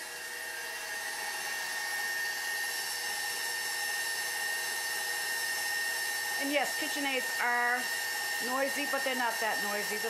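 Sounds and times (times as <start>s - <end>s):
stand mixer motor whining: 0.0s - 10.0s.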